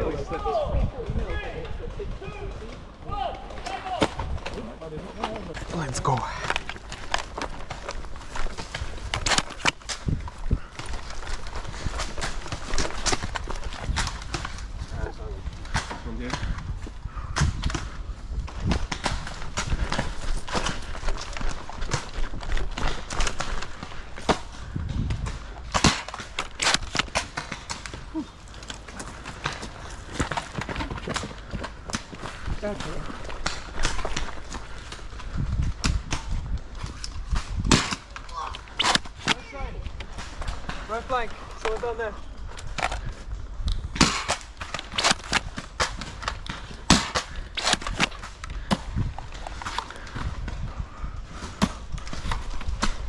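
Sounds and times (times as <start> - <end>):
fast footsteps on ground: 1.9 - 53.0.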